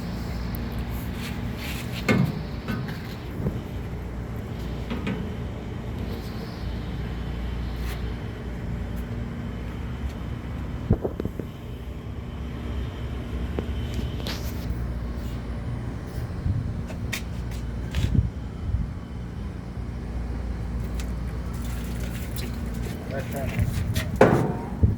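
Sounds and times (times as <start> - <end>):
low mechanical hum: 0.0 - 24.9.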